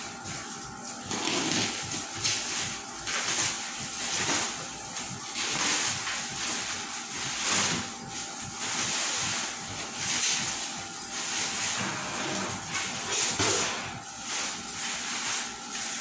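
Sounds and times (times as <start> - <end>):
bubble wrap rustling: 0.1 - 16.0.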